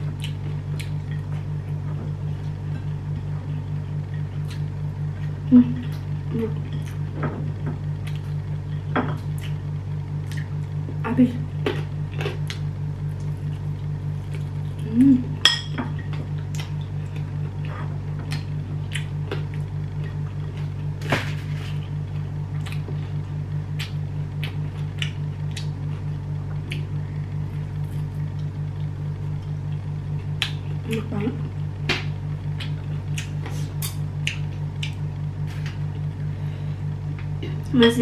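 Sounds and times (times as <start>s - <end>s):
low pulsing hum: 0.0s - 38.0s.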